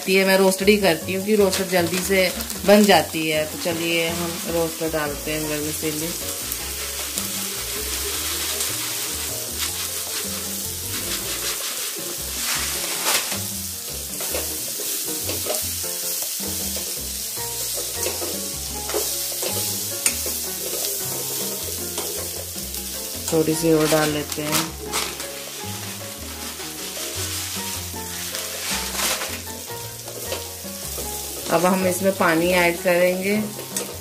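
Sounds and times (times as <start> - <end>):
vegetables sizzling in a pan: 0.0 - 34.0
ladle scraping a steel pan: 1.3 - 15.8, 16.8 - 34.0.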